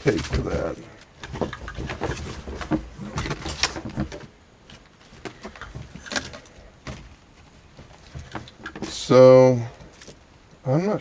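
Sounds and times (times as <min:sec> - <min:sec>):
hands handling small parts: 0:00.0 - 0:09.2.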